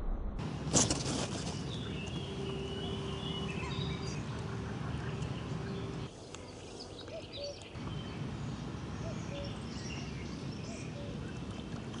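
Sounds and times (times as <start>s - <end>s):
low outdoor rumble: 0.0s - 7.0s, 7.6s - 12.0s
birds chirping: 0.4s - 12.0s.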